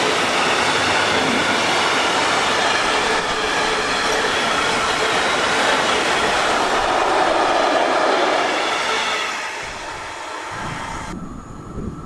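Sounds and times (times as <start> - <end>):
steel wheels on rail: 0.0 - 11.2.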